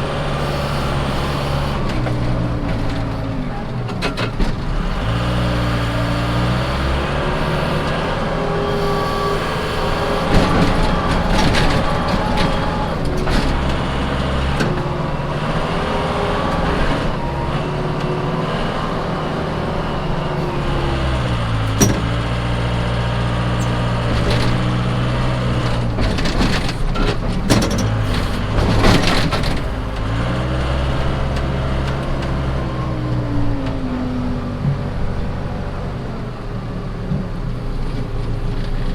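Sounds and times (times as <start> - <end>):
diesel engine running hard: 0.0 - 38.9.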